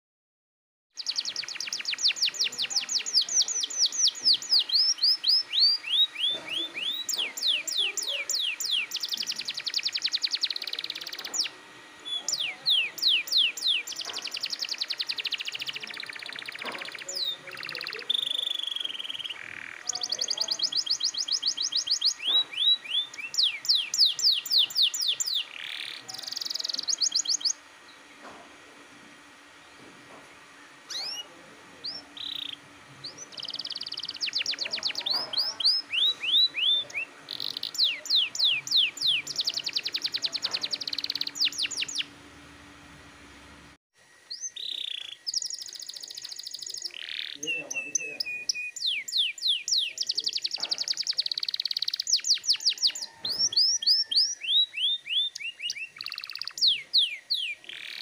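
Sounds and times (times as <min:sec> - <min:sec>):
canary singing trills: 0:01.0 - 0:28.0, 0:30.7 - 0:42.2, 0:44.3 - 0:58.0.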